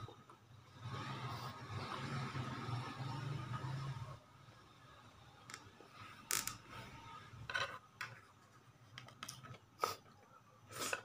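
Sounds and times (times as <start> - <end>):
faint room noise: 0.0 - 11.0.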